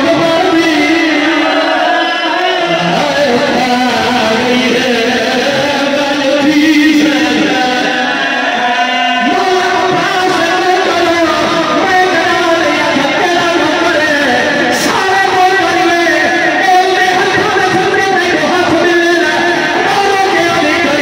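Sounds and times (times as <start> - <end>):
man singing through loudspeakers: 0.0 - 21.0.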